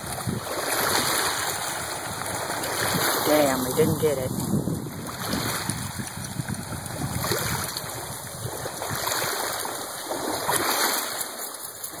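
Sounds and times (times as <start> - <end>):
rushing splashing water: 0.0 - 12.0.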